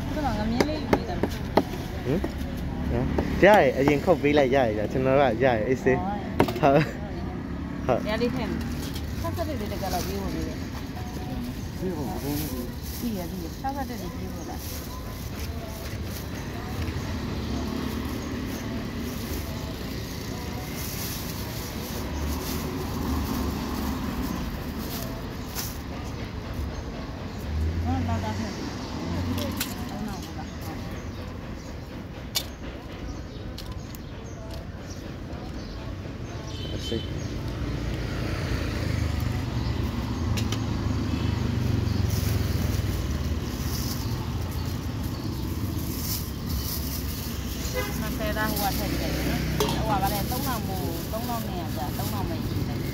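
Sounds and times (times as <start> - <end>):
low rumble of traffic: 0.0 - 52.9
market noise: 0.0 - 52.9.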